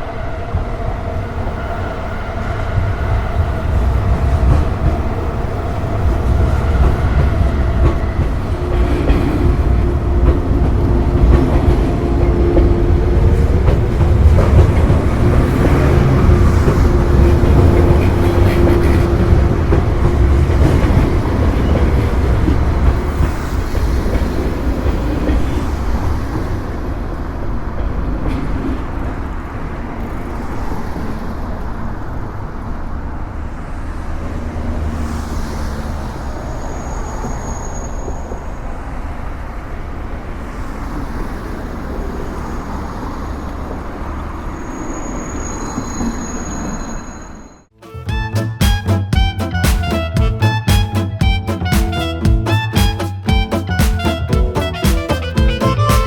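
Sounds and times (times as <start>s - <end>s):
electric train passing: 0.0s - 55.9s.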